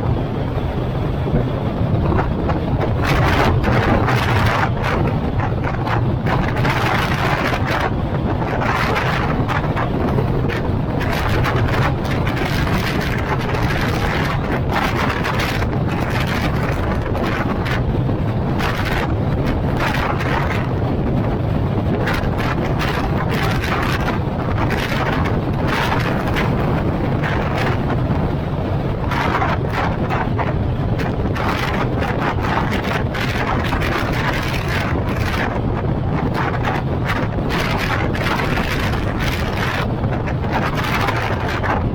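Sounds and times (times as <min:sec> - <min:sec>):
vehicle and road noise drone: 0:00.0 - 0:41.9
wind buffeting microphone: 0:00.0 - 0:41.9.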